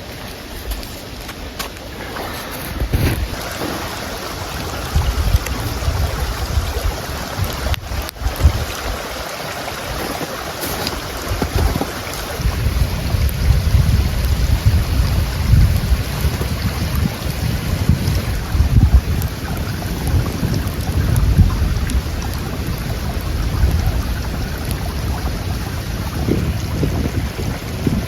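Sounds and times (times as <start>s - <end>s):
strong wind gusts buffeting microphone: 0.0s - 28.0s.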